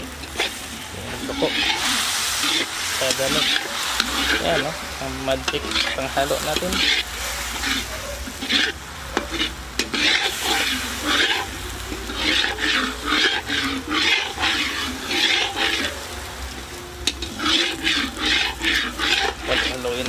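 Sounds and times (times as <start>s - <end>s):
food sizzling: 0.0s - 20.0s
utensil stirring in pan: 0.0s - 20.0s.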